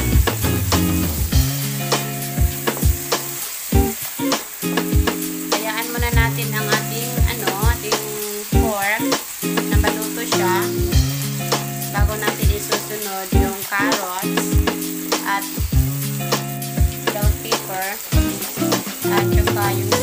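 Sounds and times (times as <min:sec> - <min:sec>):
background music with steady beat: 0:00.0 - 0:20.0
meat sizzling in a frying pan: 0:00.0 - 0:20.0.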